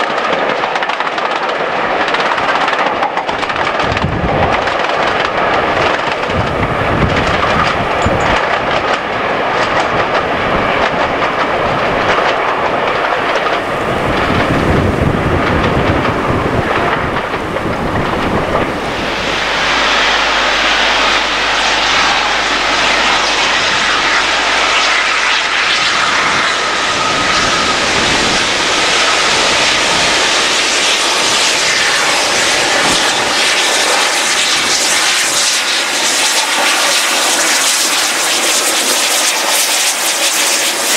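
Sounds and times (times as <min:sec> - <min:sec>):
steam train rumbling: 0:00.0 - 0:40.9
steam locomotive hissing rush: 0:00.1 - 0:40.9.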